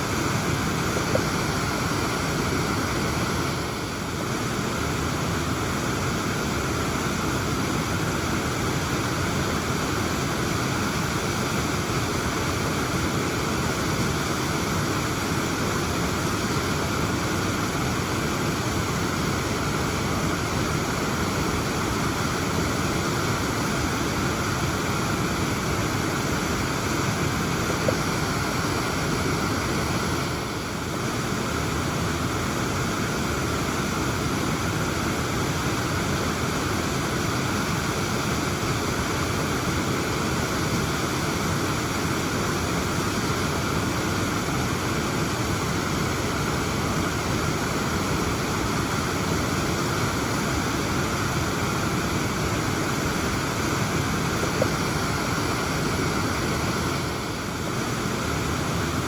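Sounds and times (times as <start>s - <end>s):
waterfall roar: 0.0s - 59.0s.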